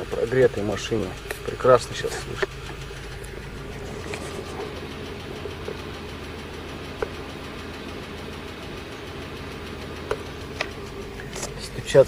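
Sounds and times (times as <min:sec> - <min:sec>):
petrol engine idling: 0:00.0 - 0:12.0
valvetrain clicking: 0:00.0 - 0:12.0.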